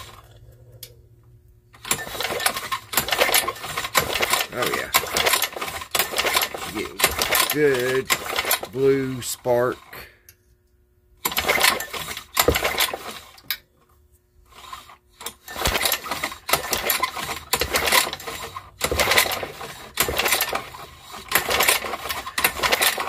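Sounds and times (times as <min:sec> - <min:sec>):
recoil starter cord pulls: 0:01.8 - 0:09.9, 0:11.2 - 0:13.6, 0:14.5 - 0:23.0
lawnmower engine cranking: 0:01.8 - 0:10.0, 0:11.2 - 0:13.6, 0:14.5 - 0:23.0.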